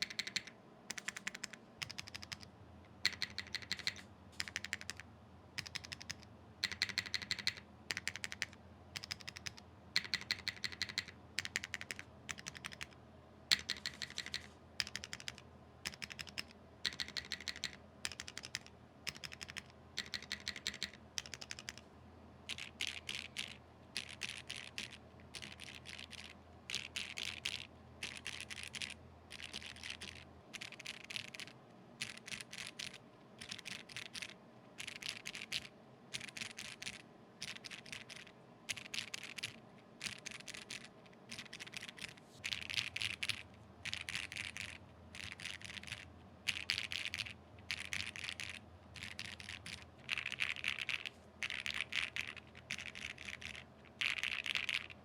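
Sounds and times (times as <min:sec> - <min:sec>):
clicky mechanical keyboard typing: 0:00.0 - 0:05.0, 0:05.6 - 0:21.8, 0:22.5 - 0:55.0.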